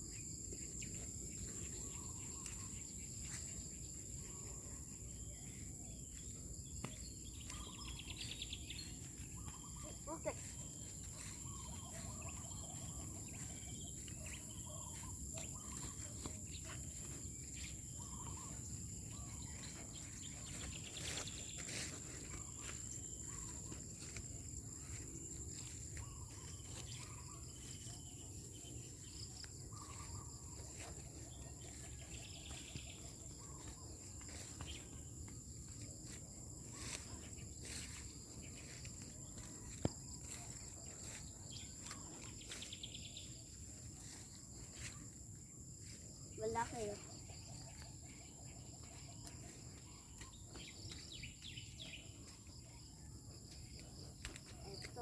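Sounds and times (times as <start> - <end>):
faint chirps and clicks: 0.2 - 55.0.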